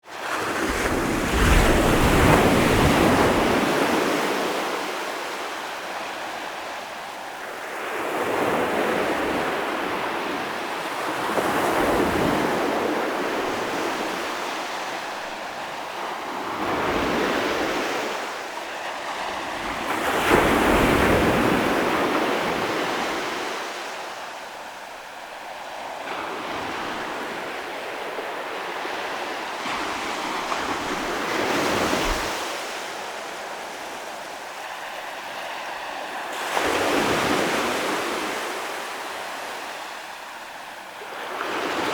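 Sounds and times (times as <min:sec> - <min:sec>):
ocean waves breaking on shore: 0:00.0 - 0:41.9.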